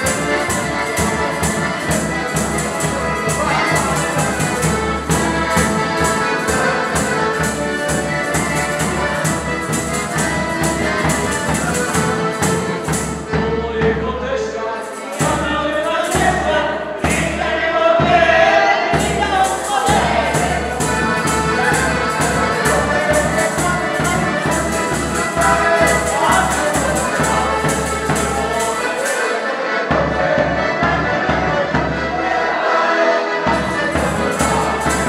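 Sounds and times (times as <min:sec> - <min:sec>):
person singing: 0:00.0 - 0:07.6, 0:13.3 - 0:35.0
accordion melody: 0:00.0 - 0:35.0.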